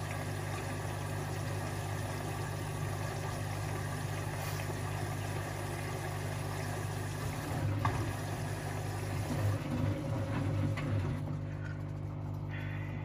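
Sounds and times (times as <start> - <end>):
washing machine drum rumbling: 0.0 - 12.4
washing machine motor hum: 0.0 - 13.0.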